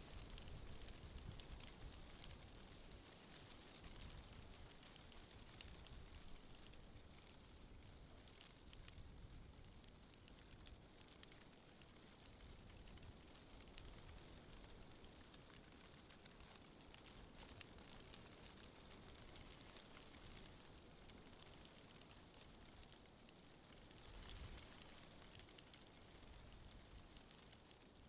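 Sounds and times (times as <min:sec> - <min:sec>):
light crackling ticks: 0:00.0 - 0:28.0.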